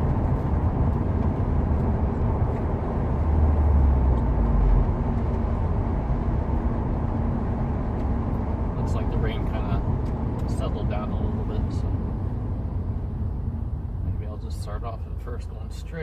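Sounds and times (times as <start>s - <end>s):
car engine droning: 0.0s - 16.0s
road noise: 0.0s - 16.0s.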